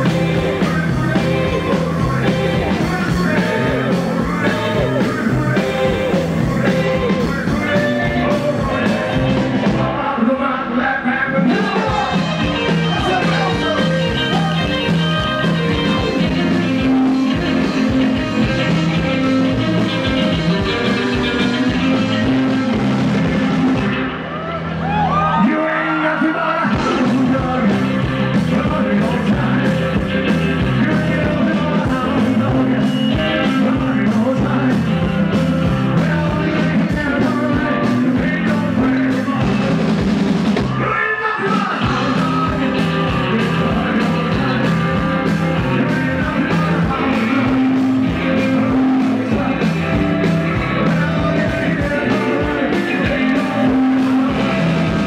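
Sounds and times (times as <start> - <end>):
steady drum beat: 0.0 - 10.0, 11.5 - 24.0, 26.8 - 55.0
walking upright bass line: 0.0 - 10.1, 11.5 - 24.1, 26.7 - 40.9, 41.8 - 55.0
person singing: 0.0 - 24.1, 25.1 - 55.0
live rock and roll band: 0.0 - 55.0.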